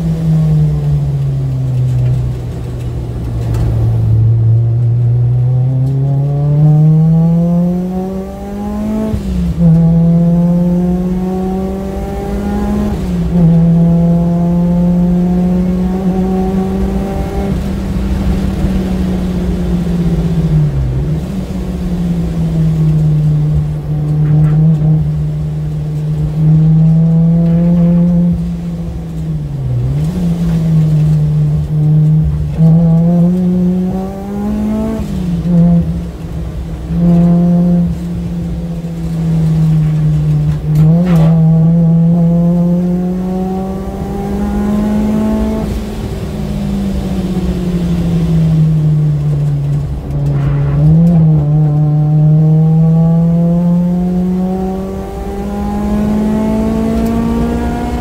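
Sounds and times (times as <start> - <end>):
car engine revving and shifting: 0.0 - 58.0.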